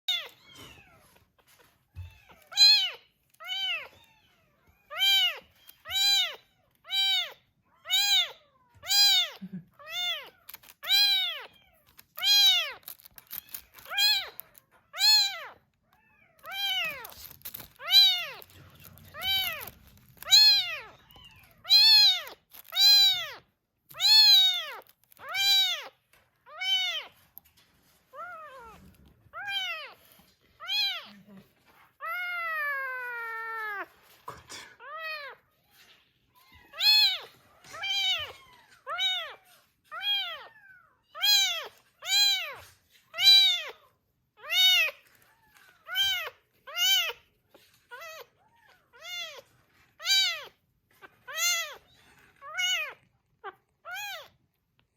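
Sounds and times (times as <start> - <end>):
kitten meowing: 0.1 - 1.2, 2.0 - 27.2, 28.1 - 31.3, 36.4 - 43.8, 44.4 - 47.3, 47.9 - 54.4.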